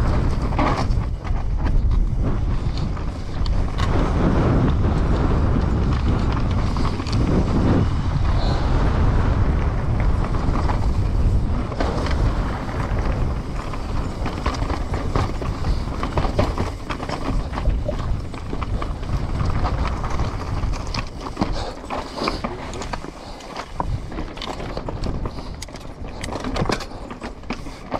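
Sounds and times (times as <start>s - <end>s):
bike clicks and knocks: 0.0s - 27.9s
tyres rumbling on trail: 0.0s - 27.9s
wind on microphone: 0.0s - 27.9s.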